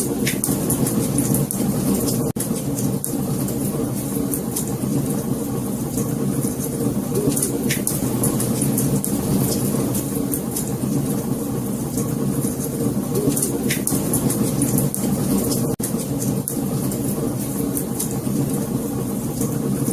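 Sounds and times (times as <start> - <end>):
fire crackling and popping: 0.0 - 19.9.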